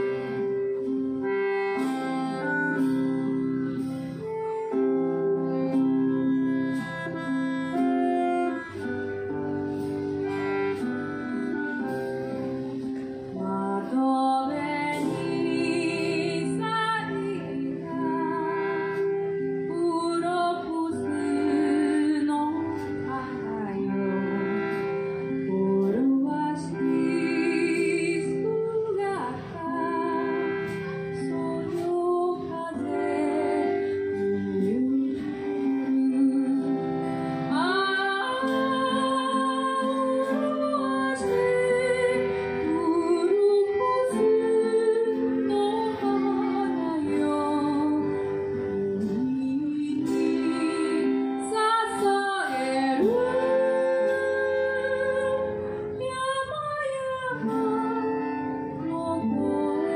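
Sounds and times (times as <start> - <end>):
accordion sustained chords: 0.0 - 59.9
woman singing with vibrato: 10.7 - 59.9.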